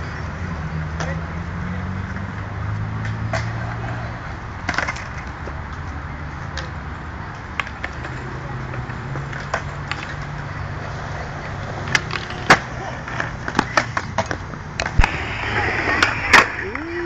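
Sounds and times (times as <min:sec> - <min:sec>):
skateboard wheels rolling on concrete: 0:00.0 - 0:17.0
skateboard clacking on concrete: 0:03.0 - 0:17.0.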